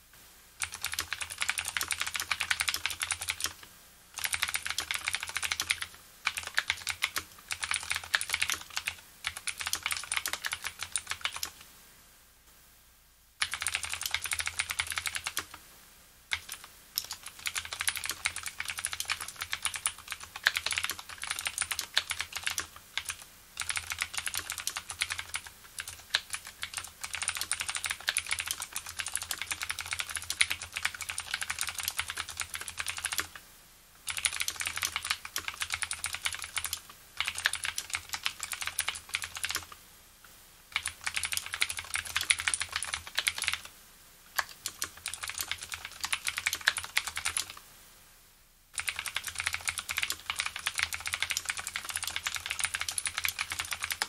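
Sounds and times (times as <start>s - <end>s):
mechanical keyboard typing clicks: 0.6s - 11.6s, 13.4s - 15.6s, 16.3s - 33.4s, 34.1s - 39.8s, 40.7s - 43.7s, 44.3s - 47.6s, 48.8s - 54.0s.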